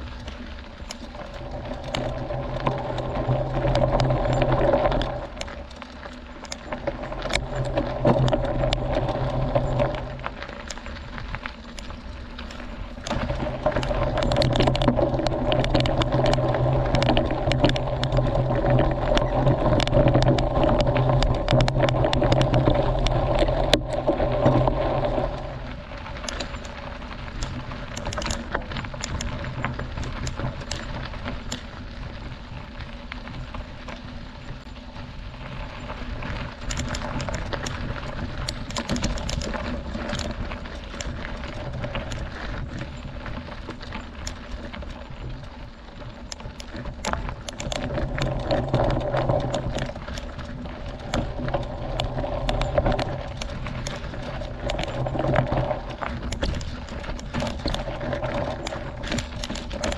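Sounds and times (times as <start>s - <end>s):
bike clicking and rattling: 0.0s - 59.9s
bike tyres crunching on gravel: 0.0s - 59.9s.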